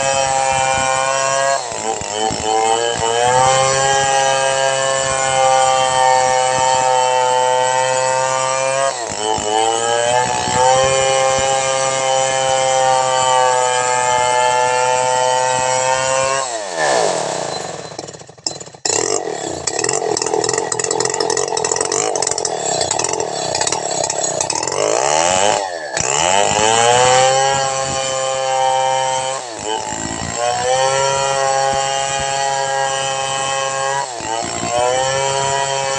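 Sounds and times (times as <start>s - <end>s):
chainsaw cutting log: 0.0s - 35.9s.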